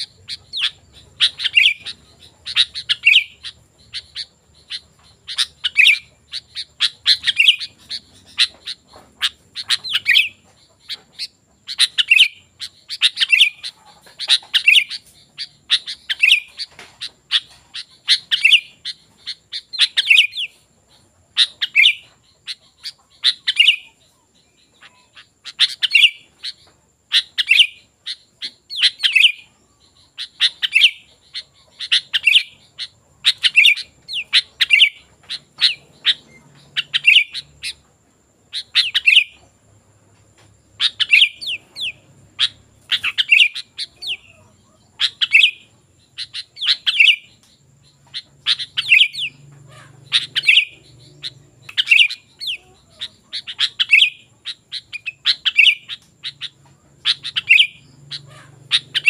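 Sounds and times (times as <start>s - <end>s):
bulbul singing: 0.0s - 59.0s.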